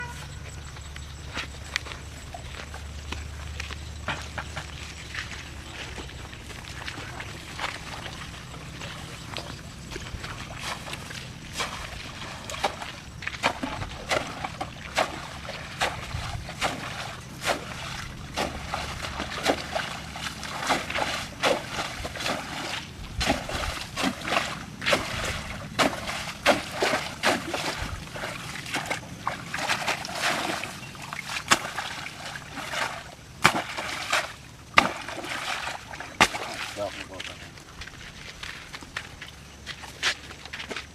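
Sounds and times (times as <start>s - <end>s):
water sloshing and splashing: 1.9s - 40.9s.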